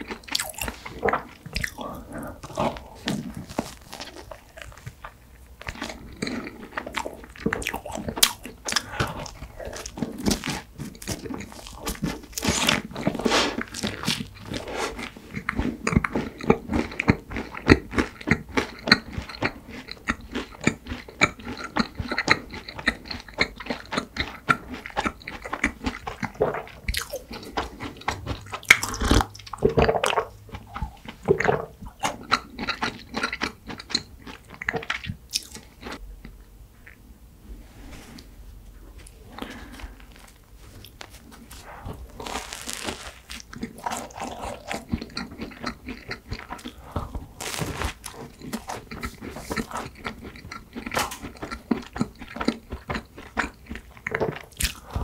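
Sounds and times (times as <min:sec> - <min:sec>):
crunchy chewing of bread: 0:00.0 - 0:37.0, 0:38.2 - 0:55.0.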